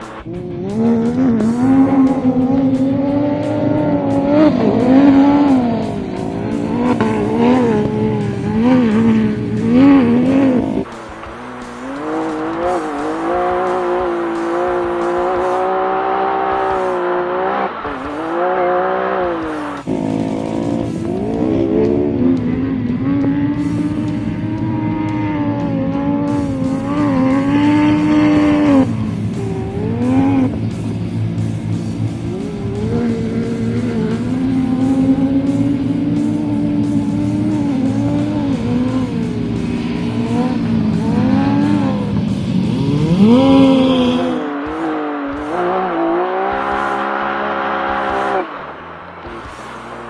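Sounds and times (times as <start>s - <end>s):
race vehicle engine revving: 0.0s - 50.0s.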